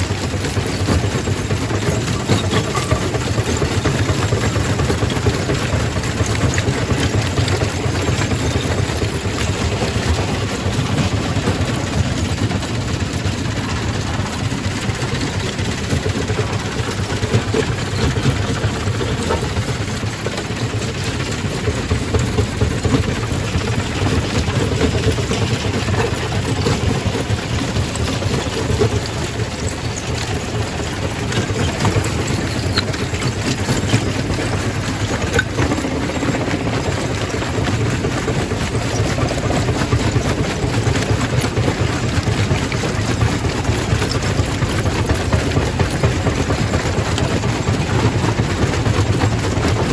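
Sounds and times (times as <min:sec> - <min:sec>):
rock crusher machinery drone: 0:00.0 - 0:49.9.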